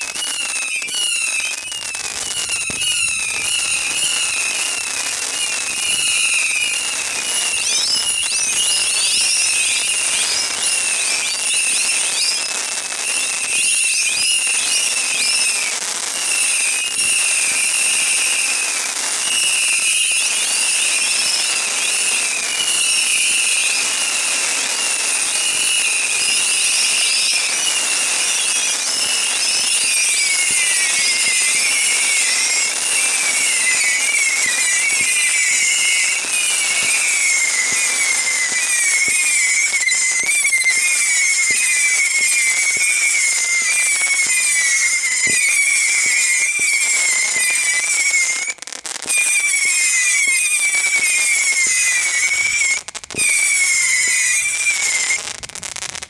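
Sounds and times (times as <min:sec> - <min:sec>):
firework missiles whistling: 0:00.0 - 0:56.0.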